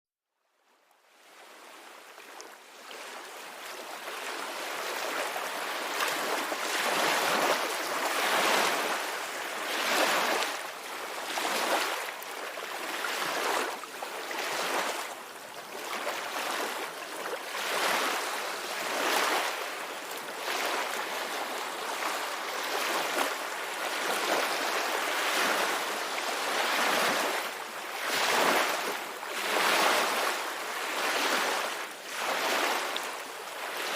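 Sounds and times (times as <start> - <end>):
ocean surf waves washing: 2.8 - 33.9.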